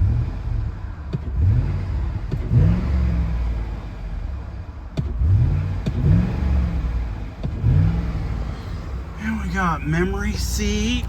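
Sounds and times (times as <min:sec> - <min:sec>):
vehicle engine idling and revving: 0:00.0 - 0:11.0.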